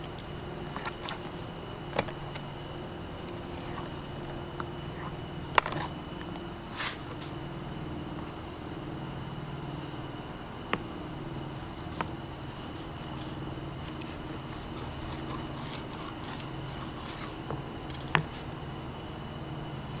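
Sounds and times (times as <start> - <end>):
mechanical motor hum: 0.0 - 20.0.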